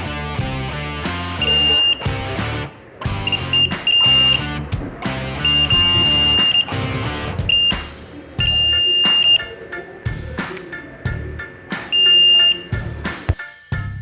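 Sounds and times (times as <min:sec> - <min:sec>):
background music with steady beat: 0:00.0 - 0:14.0
piezo buzzer beeping: 0:01.2 - 0:13.3.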